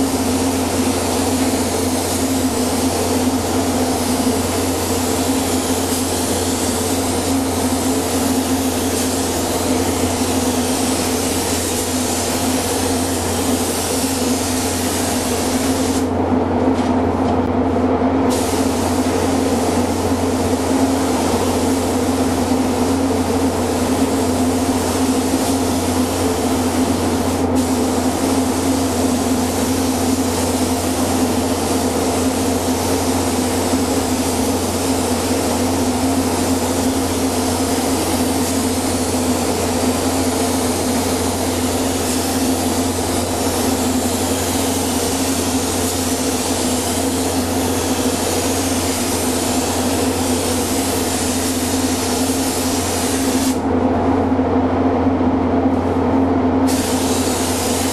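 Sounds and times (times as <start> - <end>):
spray gun hissing: 0.0 - 16.1, 18.3 - 53.6, 56.7 - 57.9.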